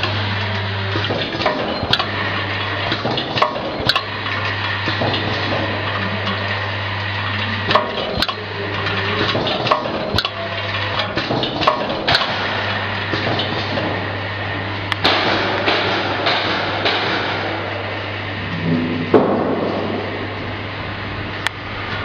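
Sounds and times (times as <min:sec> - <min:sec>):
vibrating feeder humming: 0:00.0 - 0:22.0.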